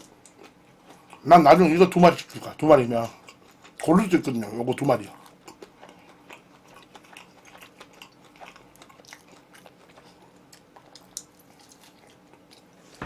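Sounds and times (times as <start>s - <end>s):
chewing and biting chicken: 0.0s - 13.0s.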